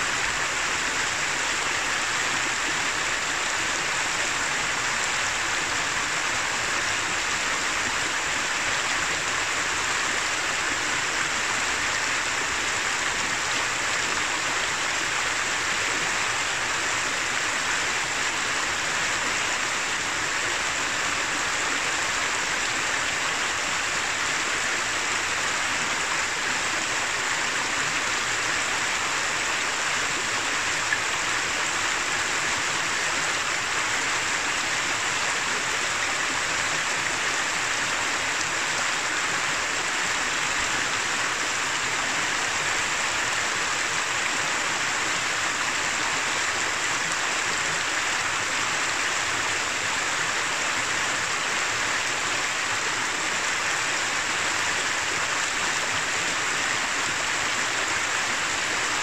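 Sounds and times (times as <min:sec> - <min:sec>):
river babbling over stones: 0:00.0 - 0:59.0.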